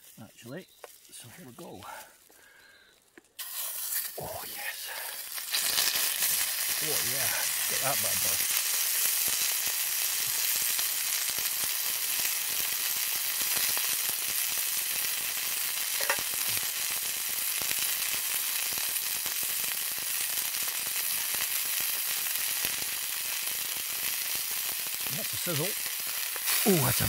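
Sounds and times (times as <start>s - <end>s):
steak sizzling in a frying pan: 3.4s - 27.0s.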